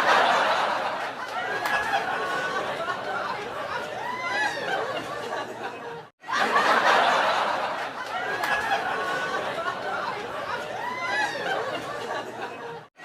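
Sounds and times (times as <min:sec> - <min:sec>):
people laughing and snickering: 0:00.0 - 0:13.0.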